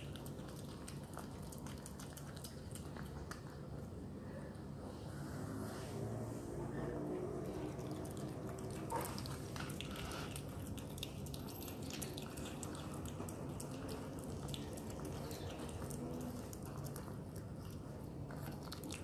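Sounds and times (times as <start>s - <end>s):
otter pup chewing food: 0.0s - 4.2s, 7.3s - 19.0s.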